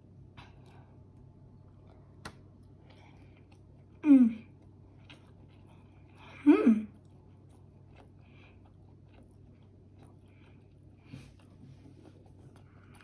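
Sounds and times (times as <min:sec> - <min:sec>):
person chewing food: 0:00.1 - 0:13.0.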